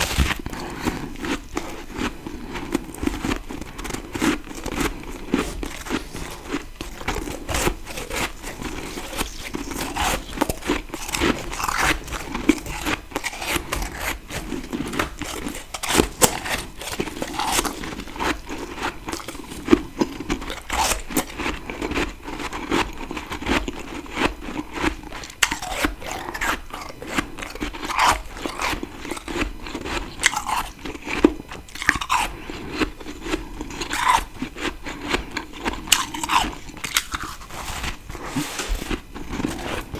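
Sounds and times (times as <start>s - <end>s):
chewing frost crunches: 0.0s - 39.9s.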